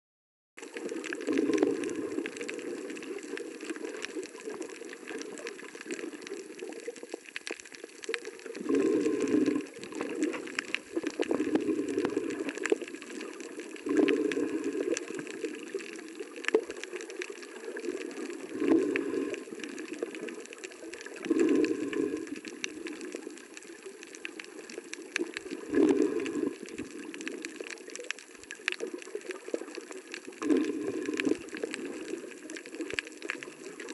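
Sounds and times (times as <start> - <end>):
muffled underwater rush: 0.6 - 33.9.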